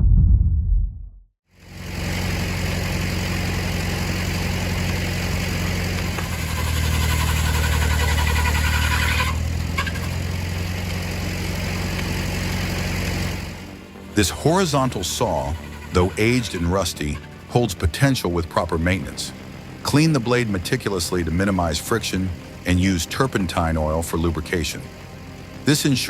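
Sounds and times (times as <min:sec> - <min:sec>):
engine low hum: 0:01.6 - 0:26.0.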